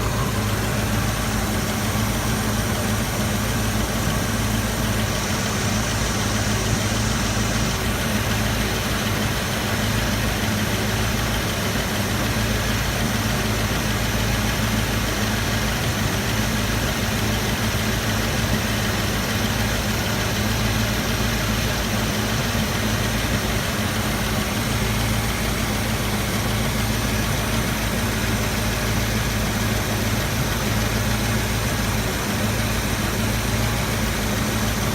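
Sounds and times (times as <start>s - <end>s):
car engine idling with exhaust leak: 0.0s - 34.9s.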